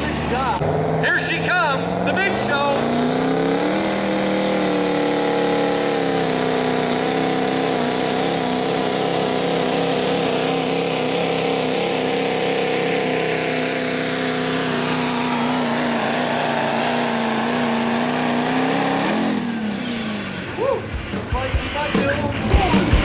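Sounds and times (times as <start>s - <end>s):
diesel truck engine at high revs: 0.0s - 23.0s.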